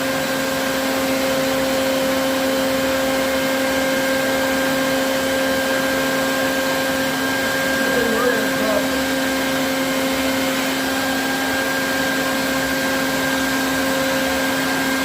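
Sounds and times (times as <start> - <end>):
vacuum motor running: 0.0 - 15.0.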